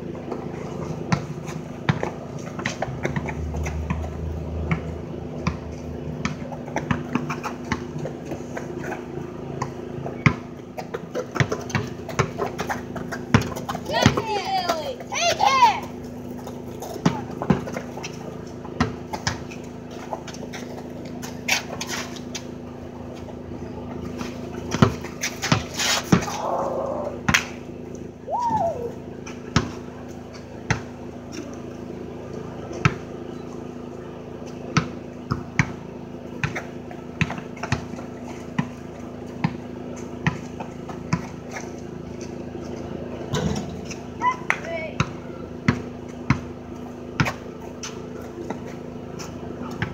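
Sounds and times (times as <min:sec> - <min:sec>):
basketball bouncing on pavement: 0:00.0 - 0:27.7, 0:28.4 - 0:33.3, 0:34.3 - 0:49.9.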